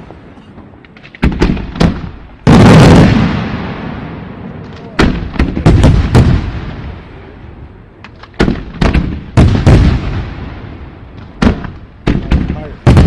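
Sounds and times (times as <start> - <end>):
fireworks booming: 0.0 - 13.0
low rumbling echo: 1.5 - 13.0.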